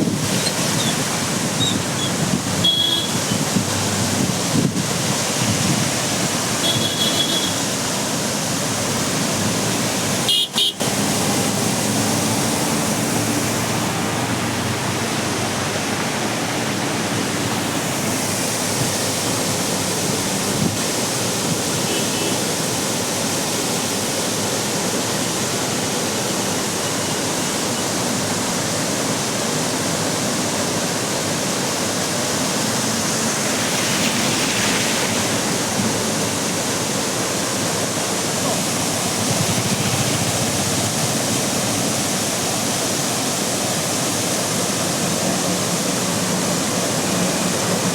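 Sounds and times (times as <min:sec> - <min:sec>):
flood water rushing across road: 0:00.0 - 0:47.9.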